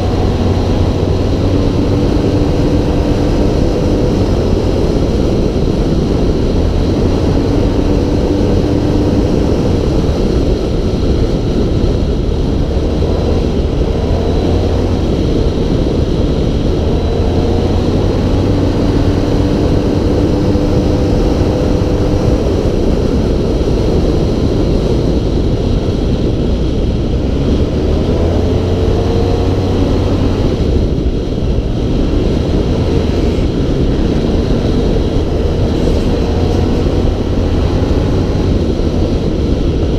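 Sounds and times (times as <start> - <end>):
off-road vehicle engine revving: 0.0 - 25.1, 27.1 - 39.9
low rumble of ride noise: 0.0 - 39.9.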